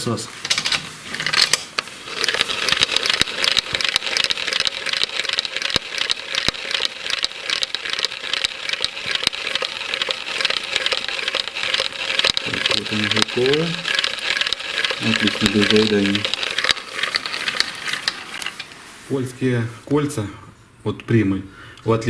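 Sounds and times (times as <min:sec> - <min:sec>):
gear teeth clicking rattle: 0:00.5 - 0:18.7.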